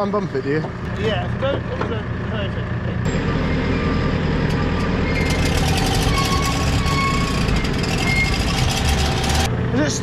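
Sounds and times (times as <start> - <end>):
diesel engine drone: 0.0 - 10.0.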